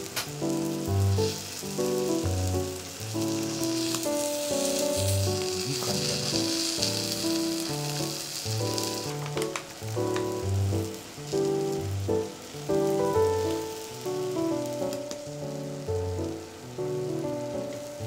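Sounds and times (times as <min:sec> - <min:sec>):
background music: 0:00.0 - 0:18.0
food sizzling in a pan: 0:00.0 - 0:18.0.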